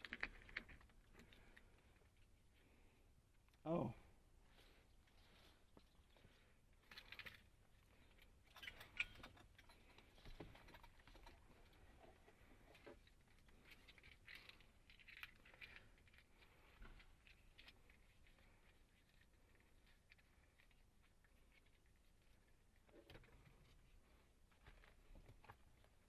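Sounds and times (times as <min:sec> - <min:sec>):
faint rustling and handling: 0:00.0 - 0:26.0.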